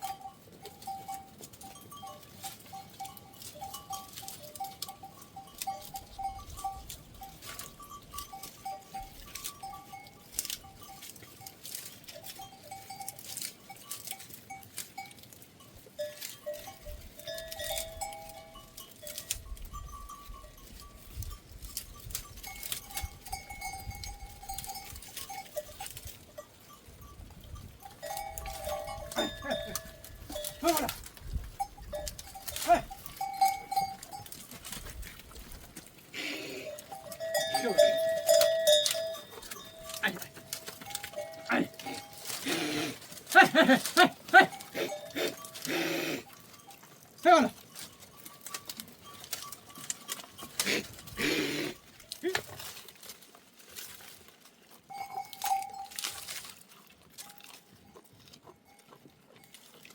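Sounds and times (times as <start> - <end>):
goat bells clanking: 0.0 - 59.9.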